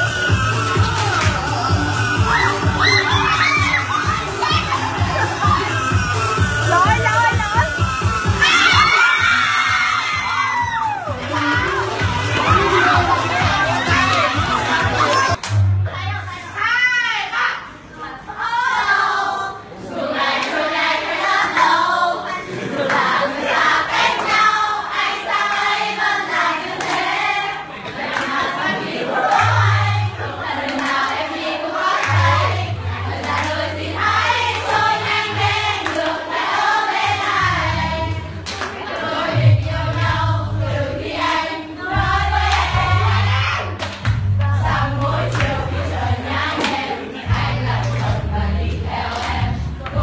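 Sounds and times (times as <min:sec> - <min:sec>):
group of voices singing: 0:00.0 - 0:15.4, 0:17.9 - 0:50.0.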